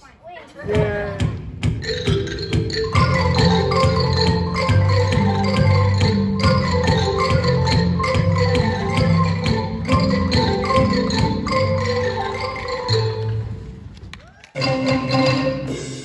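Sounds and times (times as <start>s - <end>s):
mallet percussion ensemble music: 1.1s - 13.9s, 14.6s - 16.0s.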